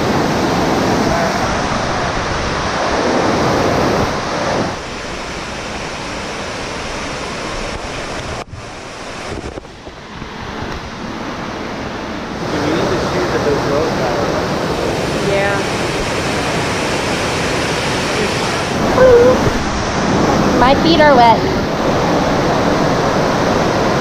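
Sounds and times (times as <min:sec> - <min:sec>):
waterfall roar: 0:00.0 - 0:24.0.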